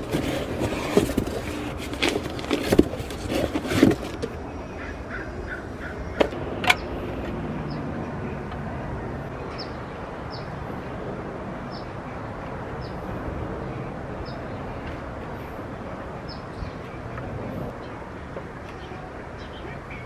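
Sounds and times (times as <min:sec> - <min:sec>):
outdoor background rumble: 0:00.0 - 0:20.0.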